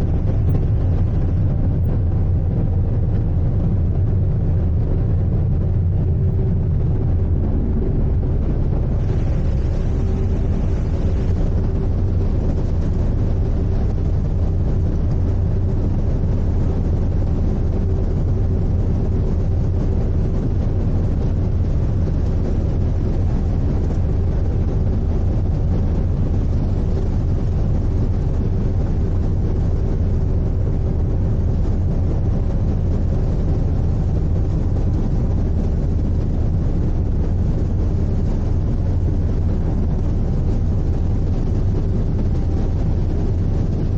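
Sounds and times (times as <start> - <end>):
ship engine rumble: 0.0 - 43.9.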